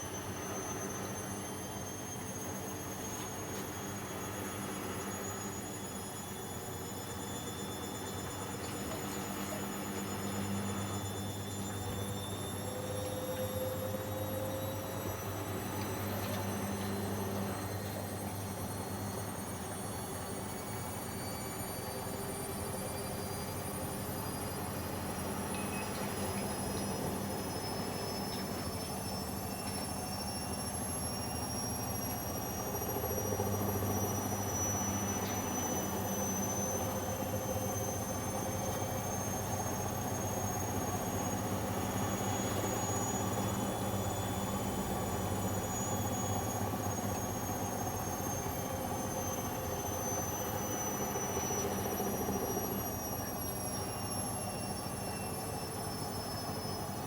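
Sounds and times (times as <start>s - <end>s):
washing machine spinning: 0.1s - 57.0s.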